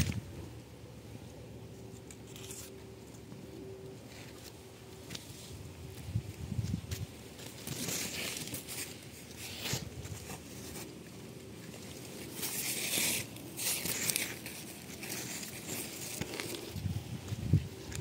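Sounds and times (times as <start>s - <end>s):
leaves rustling and crinkling: 0.0s - 18.0s.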